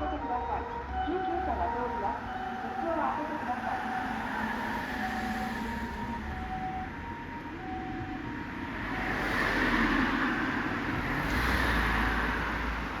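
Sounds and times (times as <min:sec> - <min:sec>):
ambulance siren: 0:00.0 - 0:10.9
passing traffic: 0:00.0 - 0:13.0.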